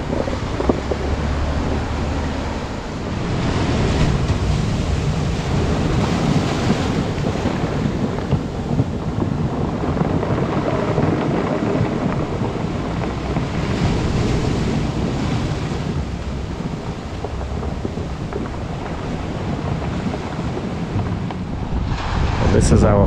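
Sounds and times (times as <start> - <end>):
surf washing over beach: 0.0 - 23.0
wind buffeting microphone: 0.0 - 23.0.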